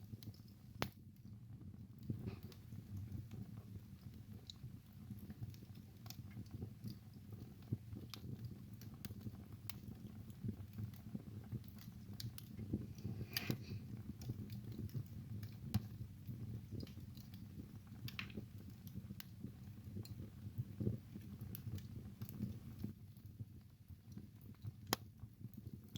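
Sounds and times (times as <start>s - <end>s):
fire crackling and popping: 0.0s - 25.9s
low rumble of flames: 0.0s - 25.9s.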